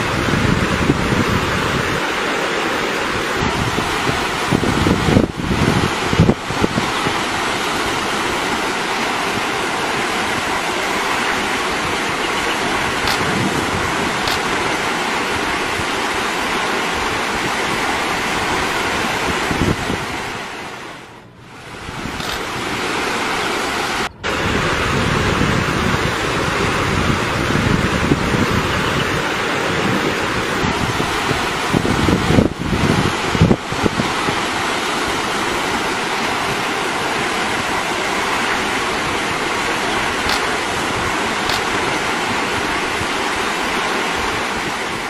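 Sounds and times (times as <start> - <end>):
river water rushing: 0.0 - 45.0
wind on microphone: 0.0 - 45.0.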